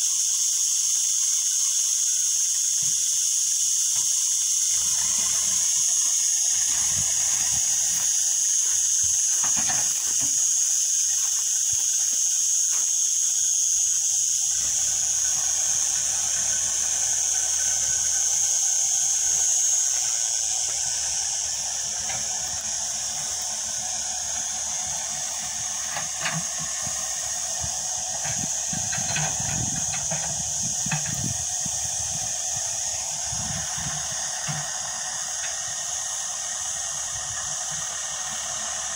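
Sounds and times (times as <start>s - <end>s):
high-pitched hiss: 0.0s - 38.9s.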